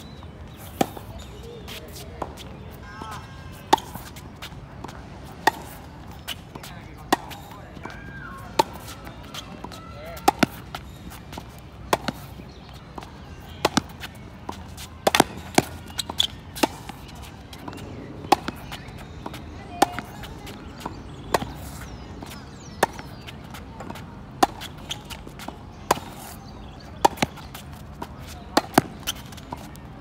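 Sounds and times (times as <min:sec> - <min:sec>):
tennis ball bouncing: 0:00.5 - 0:29.8
rackets striking tennis ball: 0:03.7 - 0:29.8.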